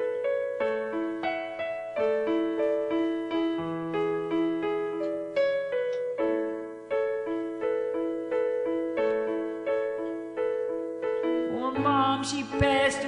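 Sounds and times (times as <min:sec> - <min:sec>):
slow piano ballad on keyboard: 0:00.0 - 0:13.0.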